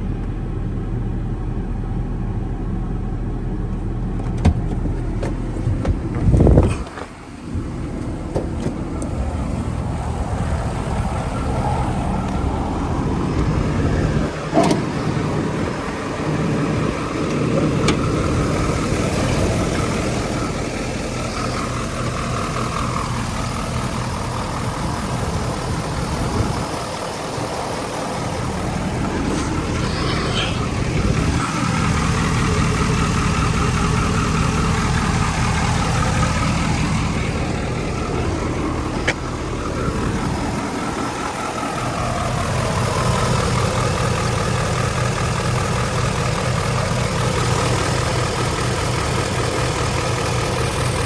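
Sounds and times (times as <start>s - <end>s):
diesel engine idling: 0.0s - 51.0s
engine knock: 4.4s - 30.0s, 30.9s - 51.0s.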